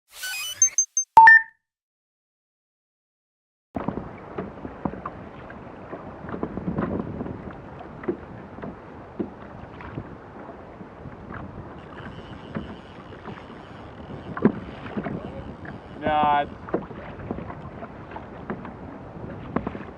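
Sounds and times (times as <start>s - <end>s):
water lapping against kayak hull: 3.8s - 19.9s
wind buffeting microphone: 3.8s - 19.9s.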